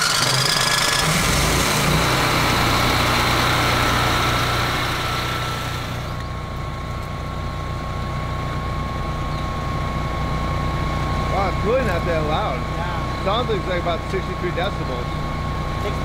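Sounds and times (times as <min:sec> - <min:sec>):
generator engine humming: 0:00.0 - 0:16.0.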